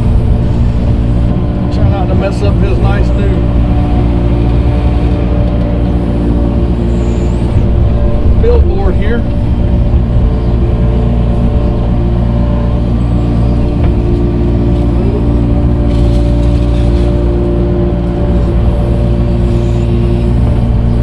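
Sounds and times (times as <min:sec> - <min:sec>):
diesel digger engine running: 0:00.0 - 0:21.0.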